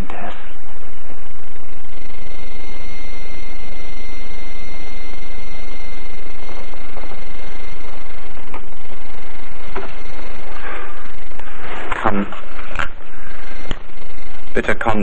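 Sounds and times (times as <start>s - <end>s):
film soundtrack hiss and hum: 0.0s - 15.0s
thin high whine: 0.0s - 15.0s.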